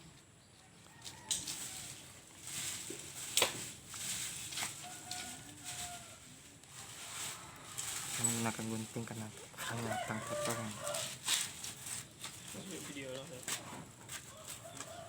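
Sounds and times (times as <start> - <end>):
rustling handling noise: 0.9 - 15.0.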